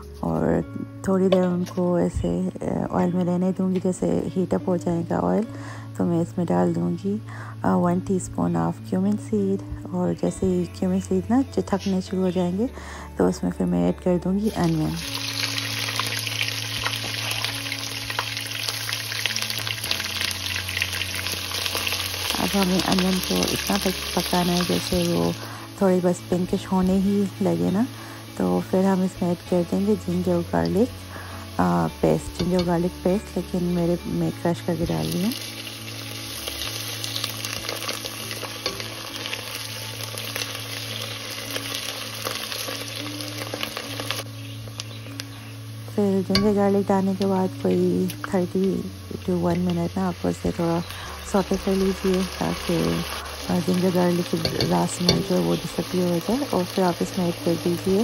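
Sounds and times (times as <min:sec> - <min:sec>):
onions sizzling in oil: 0:00.0 - 0:58.0.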